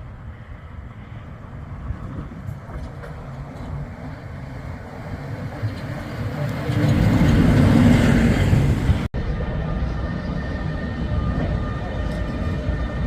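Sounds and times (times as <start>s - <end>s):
locomotive rumbling past: 0.0s - 13.0s.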